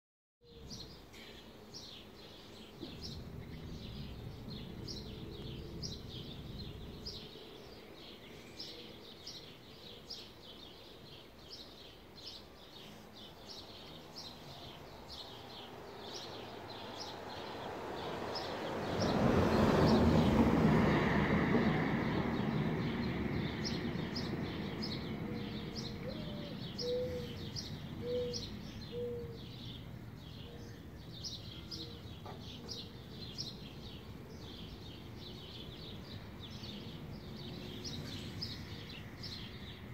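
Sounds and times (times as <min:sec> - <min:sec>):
birds chirping: 0:00.4 - 0:20.4, 0:21.6 - 0:39.9.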